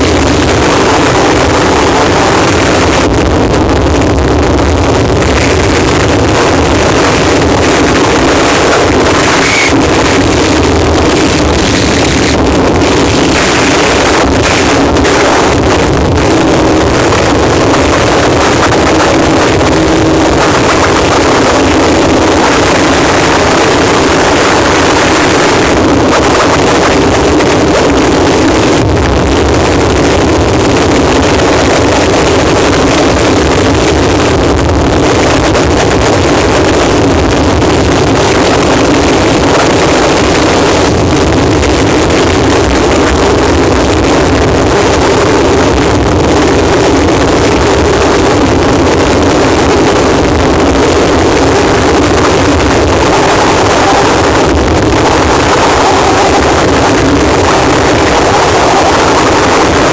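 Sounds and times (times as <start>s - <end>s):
distorted static noise: 0.0s - 59.9s
low rumble: 0.0s - 59.9s.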